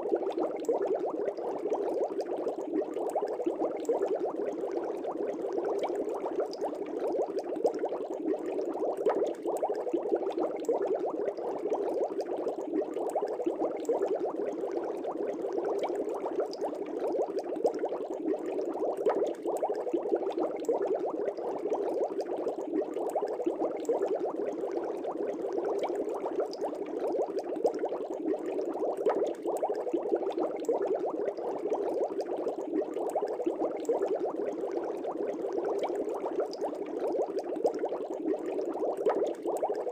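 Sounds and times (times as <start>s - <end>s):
fish tank bubbling: 0.0s - 39.9s.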